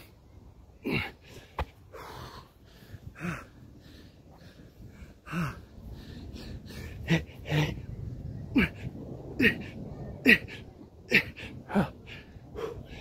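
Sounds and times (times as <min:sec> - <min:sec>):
man breathing hard: 0:00.8 - 0:13.0.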